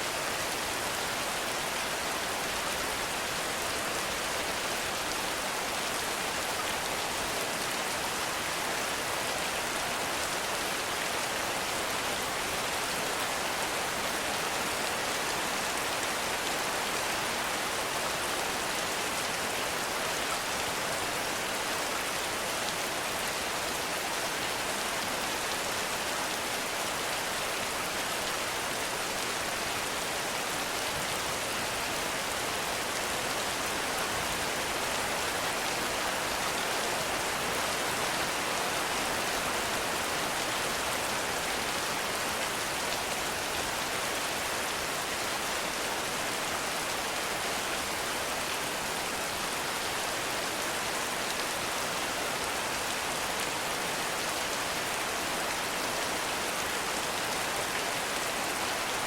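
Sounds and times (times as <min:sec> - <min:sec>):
heavy rain in forest: 0:00.0 - 0:59.0.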